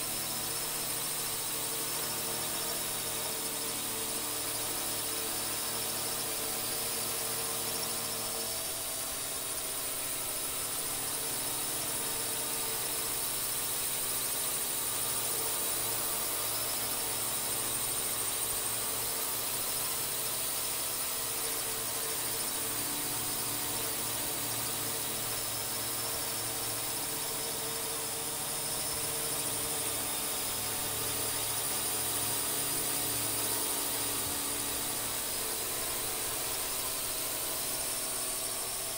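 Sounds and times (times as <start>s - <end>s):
drone propellers whining: 0.2s - 38.9s.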